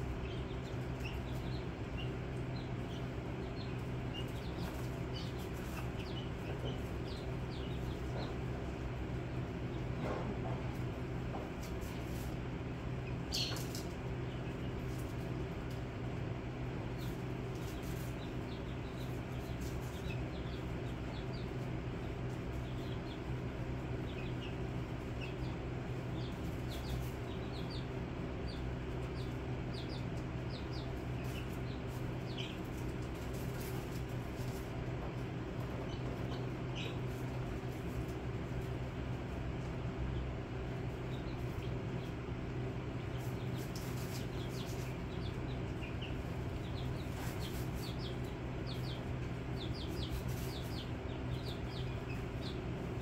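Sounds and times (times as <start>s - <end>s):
chicks peeping: 0.0s - 53.0s
low electrical hum: 0.0s - 53.0s.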